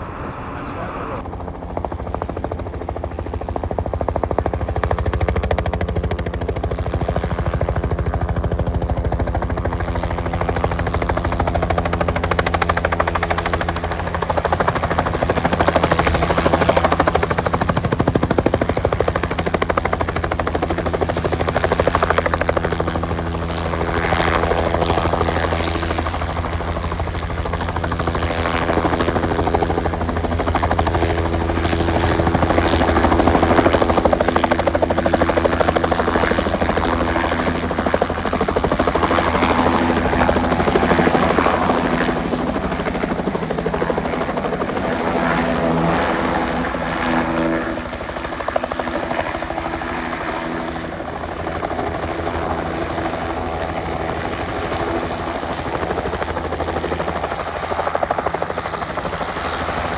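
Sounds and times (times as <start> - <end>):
helicopter rotor chop: 0.0 - 59.9.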